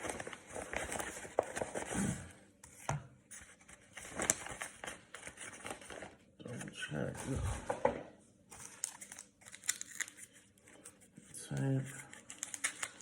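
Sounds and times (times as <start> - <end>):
card packaging rustling: 0.0 - 1.9, 2.7 - 7.7, 8.5 - 13.0.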